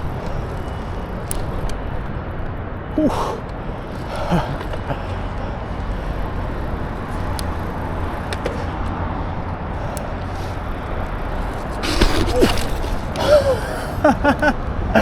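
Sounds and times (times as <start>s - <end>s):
faint ticks: 0.0s - 14.5s
bicycle riding rumble and hiss: 0.0s - 15.0s.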